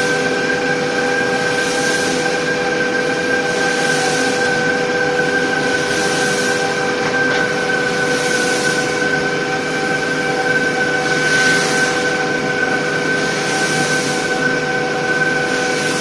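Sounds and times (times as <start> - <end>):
factory machinery drone: 0.0 - 16.0.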